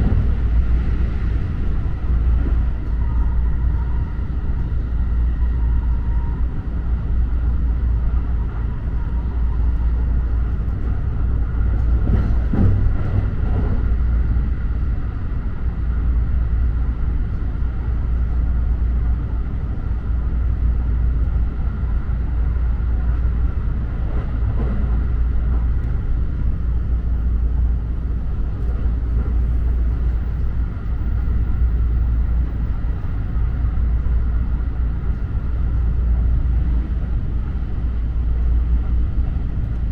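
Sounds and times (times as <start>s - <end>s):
faint train whine: 0.0s - 39.9s
train interior rumble: 0.0s - 39.9s.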